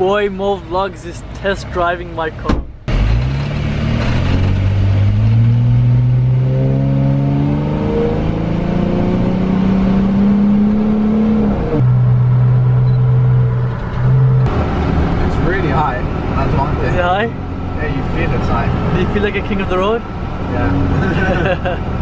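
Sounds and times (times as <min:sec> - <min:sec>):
car engine accelerating: 0:02.8 - 0:22.0.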